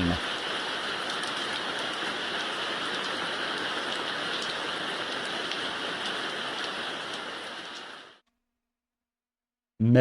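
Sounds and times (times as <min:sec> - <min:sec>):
steady rain-like hiss: 0:00.0 - 0:08.2.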